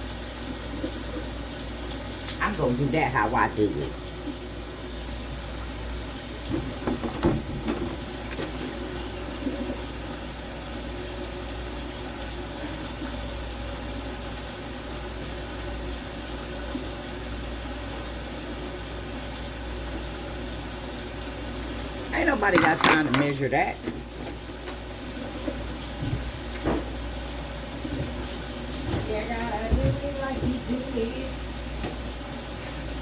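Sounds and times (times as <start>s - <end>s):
kitchen tap running: 0.0s - 33.0s.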